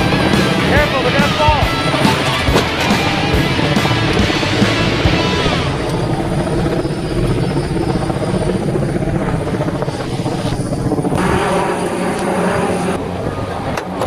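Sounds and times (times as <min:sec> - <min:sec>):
helicopter rotor beating: 0:00.0 - 0:14.0.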